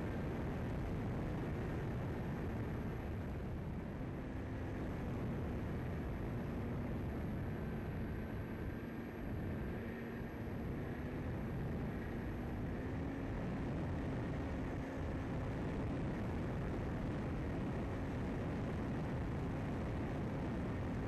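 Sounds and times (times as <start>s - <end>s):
droning motor and propeller: 0.0s - 21.0s
rushing wind: 0.0s - 21.0s.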